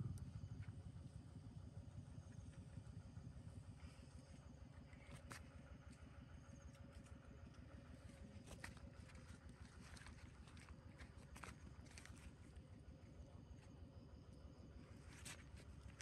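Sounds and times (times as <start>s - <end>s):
faint low rumble: 0.0s - 16.0s
faint steady hum: 0.0s - 16.0s.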